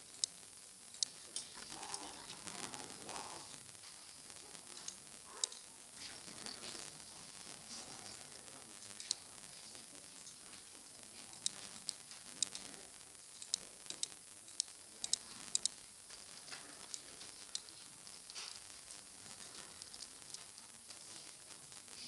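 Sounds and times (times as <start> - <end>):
microphone hiss: 0.0 - 22.0.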